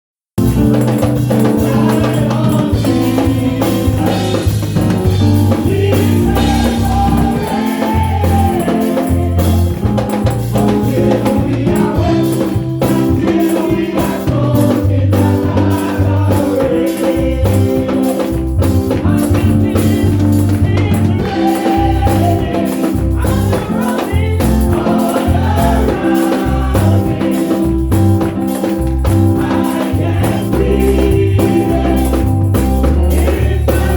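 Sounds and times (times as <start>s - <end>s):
choir singing gospel music: 0.4s - 33.9s
tambourine beat: 0.4s - 33.9s.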